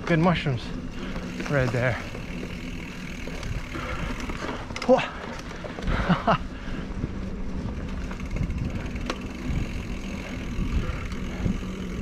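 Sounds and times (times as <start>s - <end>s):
bike rattling: 0.0s - 12.0s
bike tyres on dirt trail: 0.0s - 12.0s.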